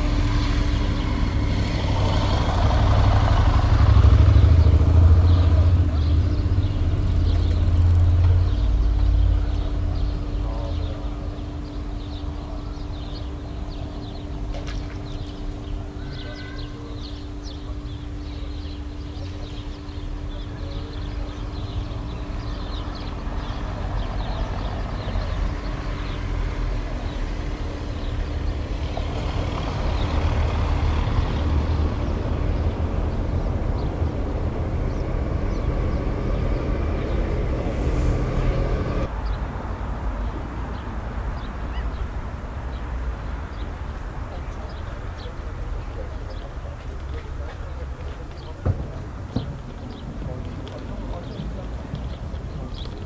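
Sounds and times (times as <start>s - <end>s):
engine rumble: 0.0s - 53.0s.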